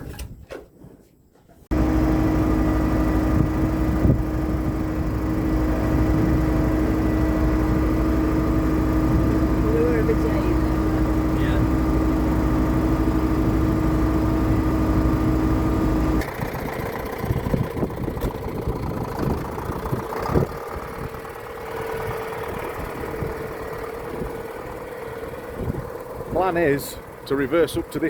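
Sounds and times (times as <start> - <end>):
tractor engine running: 1.7 - 28.0.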